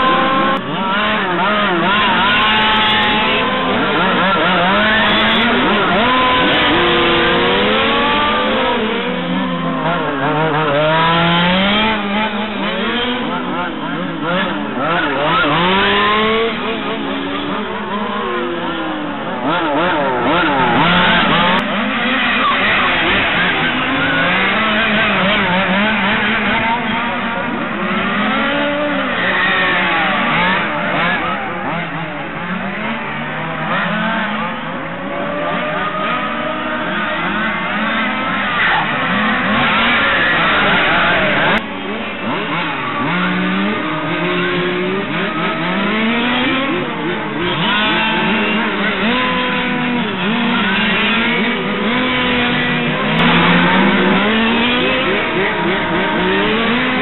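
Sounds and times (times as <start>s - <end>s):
small two-stroke engines racing: 0.0s - 57.0s.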